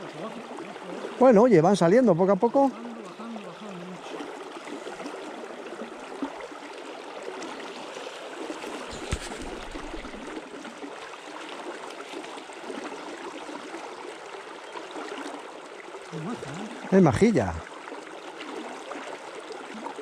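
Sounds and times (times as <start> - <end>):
river water babbling over stones: 0.0 - 20.0.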